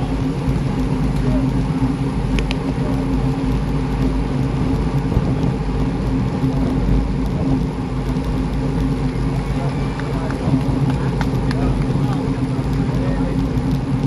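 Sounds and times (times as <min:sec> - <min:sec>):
hum of tyres on road: 0:00.0 - 0:14.0
wind on microphone: 0:00.0 - 0:14.0.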